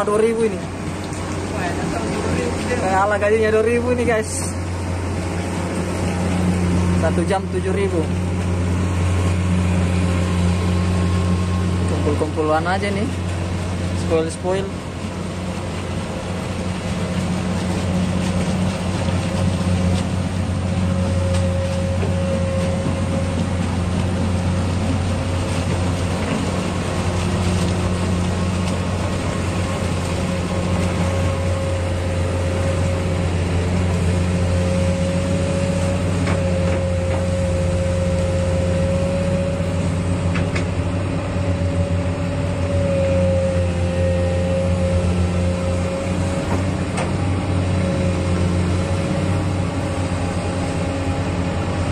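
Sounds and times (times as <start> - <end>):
heavy diesel engine running: 0.0 - 51.9
steady whine: 0.0 - 51.9.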